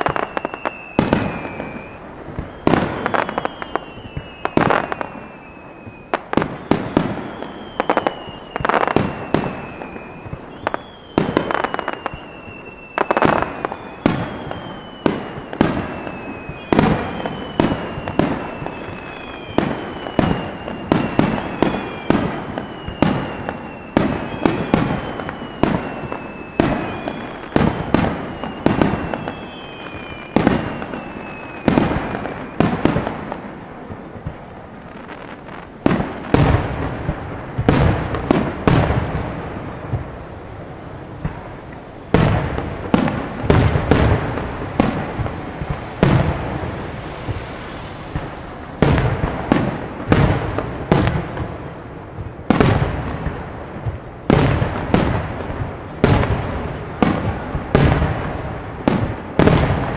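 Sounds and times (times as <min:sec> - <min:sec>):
firework shells bursting: 0:00.0 - 0:58.3
falling firework whistle: 0:00.0 - 0:59.9.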